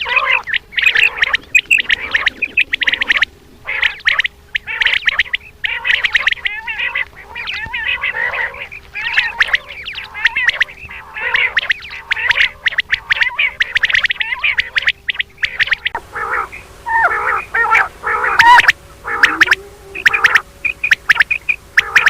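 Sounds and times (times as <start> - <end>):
faint steady hum: 0.0 - 22.0
quail calling: 0.0 - 22.0.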